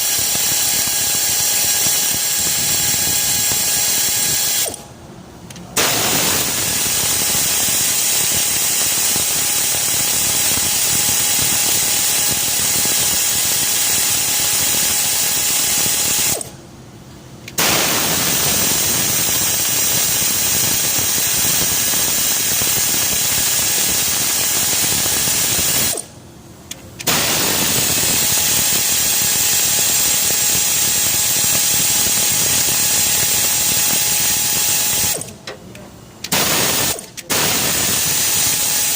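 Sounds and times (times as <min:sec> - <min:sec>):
power ratchet whirring: 0:00.0 - 0:04.8, 0:05.8 - 0:16.5, 0:17.5 - 0:26.1, 0:26.7 - 0:35.4, 0:36.2 - 0:38.9.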